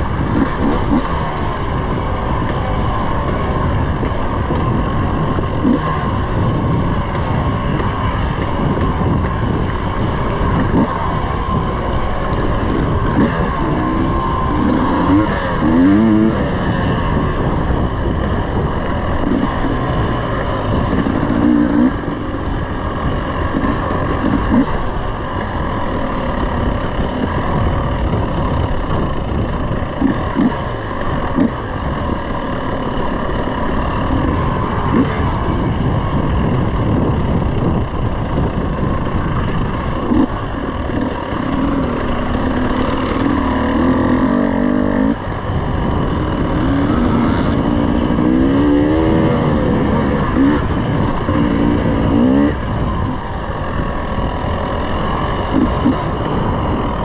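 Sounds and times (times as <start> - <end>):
dirt bike engine revving: 0.0 - 57.0
rough rush of noise: 0.0 - 57.0.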